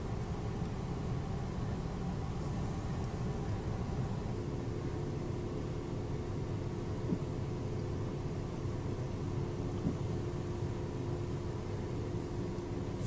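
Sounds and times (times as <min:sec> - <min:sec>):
car cabin hum: 0:00.0 - 0:13.0
faint steady tone: 0:00.0 - 0:13.0.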